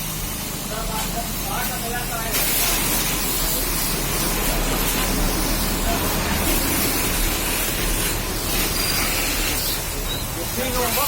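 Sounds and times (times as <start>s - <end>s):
pressure washer spraying water: 0.0s - 11.0s.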